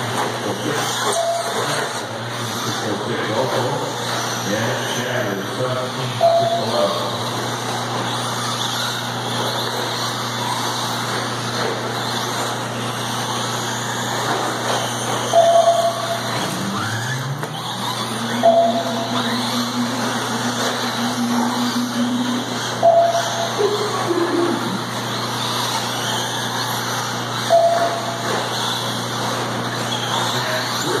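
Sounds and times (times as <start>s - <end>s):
rc car motor whines: 0.0s - 31.0s
steady low hum: 0.0s - 31.0s.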